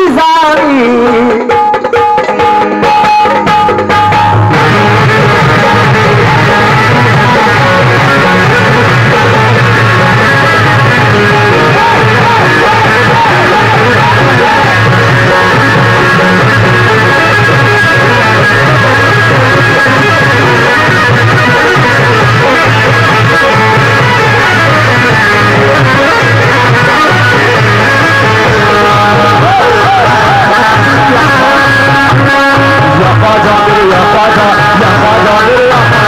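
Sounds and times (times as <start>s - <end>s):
keyboard: 0.0s - 36.0s
qawwali music: 0.0s - 36.0s.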